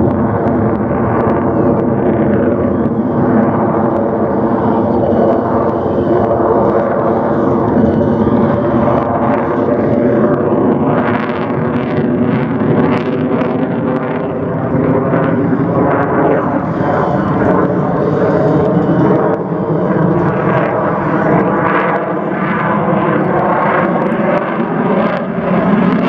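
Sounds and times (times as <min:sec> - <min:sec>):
jet fighter passing overhead: 0:00.0 - 0:26.0.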